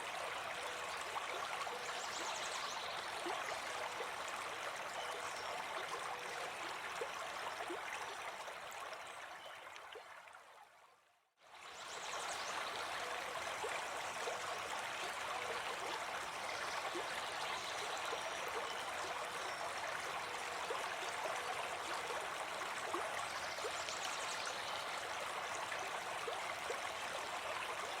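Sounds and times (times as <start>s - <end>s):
brook babbling: 0.0s - 28.0s.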